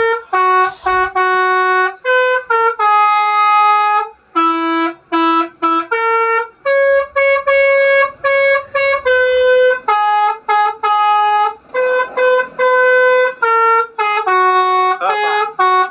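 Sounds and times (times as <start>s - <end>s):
multi-tone musical air horn tune: 0.0s - 15.9s.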